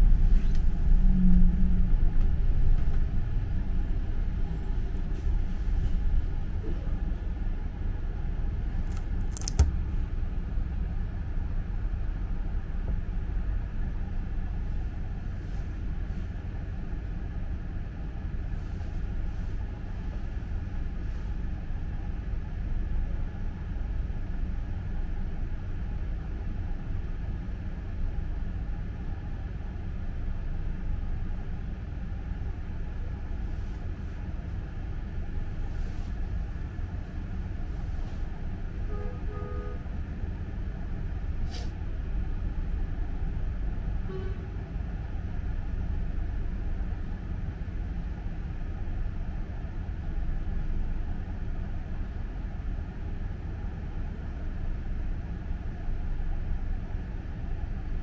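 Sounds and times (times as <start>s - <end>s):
bus rumbling in motion: 0.0s - 58.0s.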